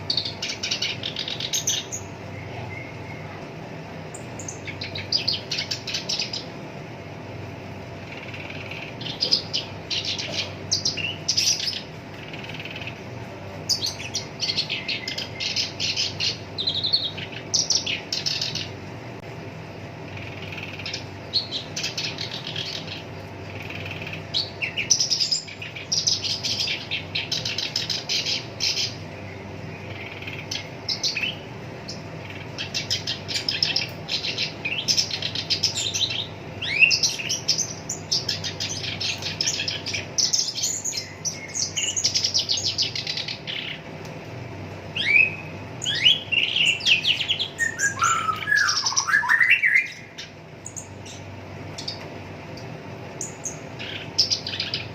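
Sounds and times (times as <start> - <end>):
warbler chattering song: 0.0 - 54.9.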